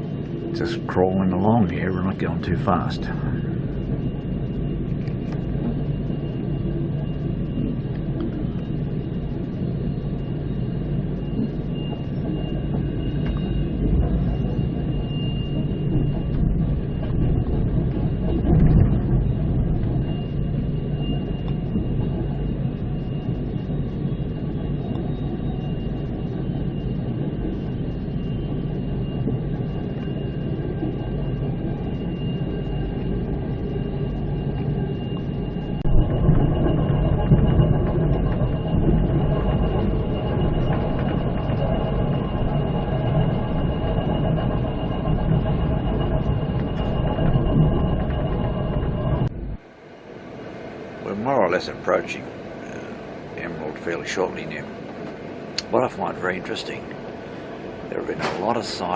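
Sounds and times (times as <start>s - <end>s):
train rumbling on track: 0.0s - 6.8s, 11.0s - 33.0s, 34.2s - 49.7s, 50.9s - 58.9s
faint high whine: 0.0s - 58.9s.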